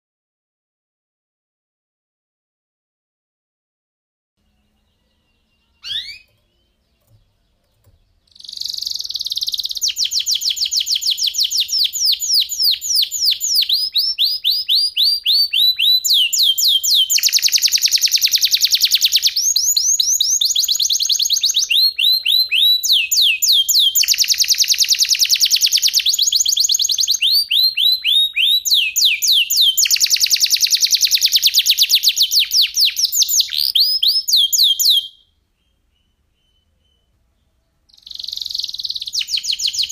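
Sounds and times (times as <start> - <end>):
canary chirp: 4.4 - 39.9
canary singing with trills: 4.4 - 39.9.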